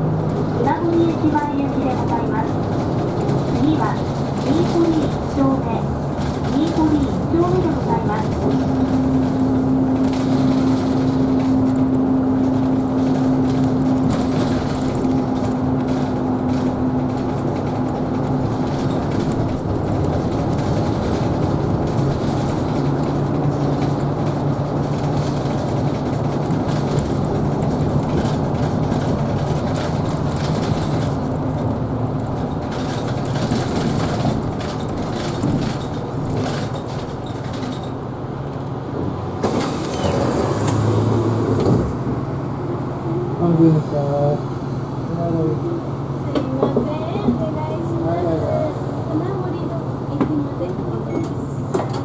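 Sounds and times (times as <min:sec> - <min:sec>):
bus drivetrain hum: 0:00.0 - 0:52.0
road rumble: 0:00.0 - 0:52.0.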